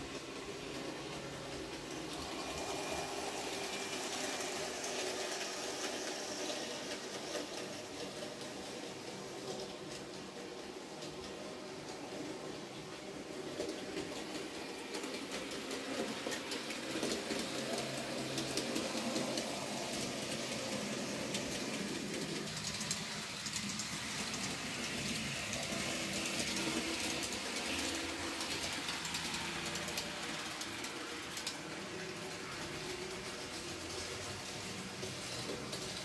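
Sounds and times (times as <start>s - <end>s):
model train motor humming: 0.0s - 36.0s
wheels clicking on rails: 0.0s - 36.0s.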